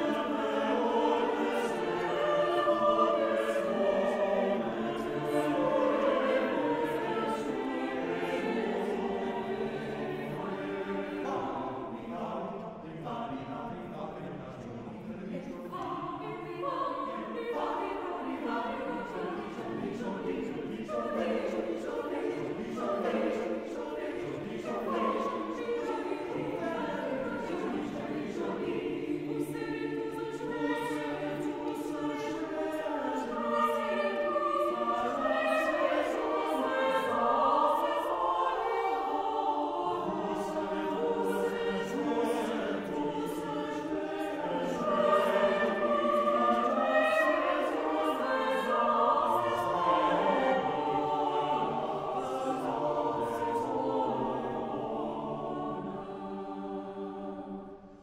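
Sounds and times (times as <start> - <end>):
choir singing sustained chords: 0.0 - 58.0.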